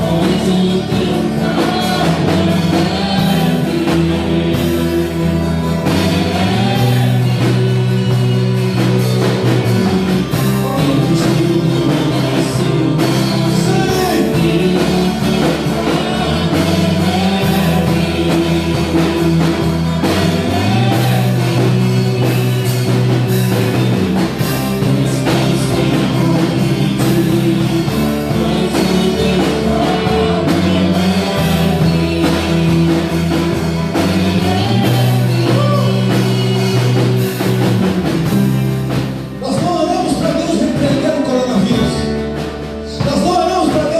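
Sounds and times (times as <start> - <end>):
rock band music with singing: 0.0 - 43.9.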